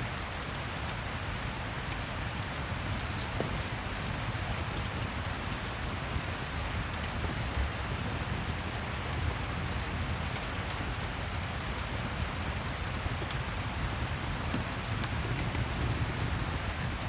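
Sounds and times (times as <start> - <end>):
fireplace crackles: 0.0 - 17.0
rain falling: 0.0 - 17.0.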